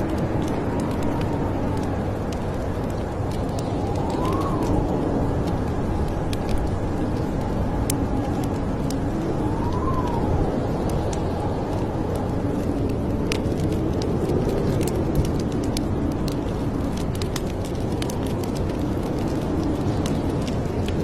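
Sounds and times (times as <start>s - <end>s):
fire popping and snapping: 0.0s - 21.0s
low rumble of fire: 0.0s - 21.0s.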